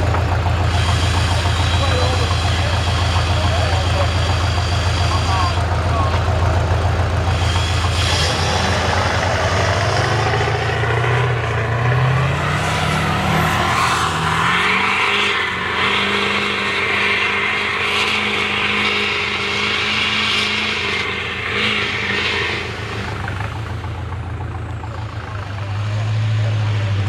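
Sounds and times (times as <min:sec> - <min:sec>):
diesel truck engine revving: 0:00.0 - 0:27.0.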